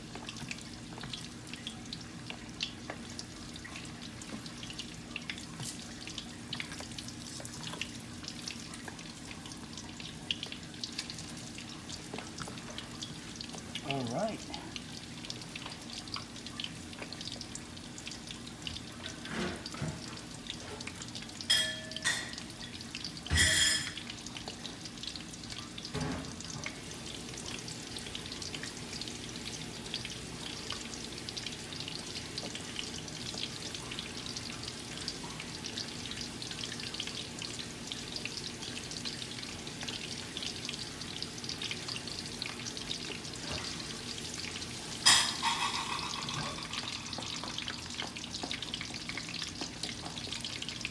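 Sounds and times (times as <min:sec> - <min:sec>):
chicken frying in oil: 0:00.0 - 0:50.9.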